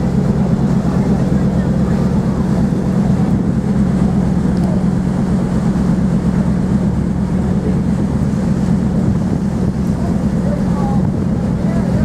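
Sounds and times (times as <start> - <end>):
ferry engines droning: 0.0 - 12.0.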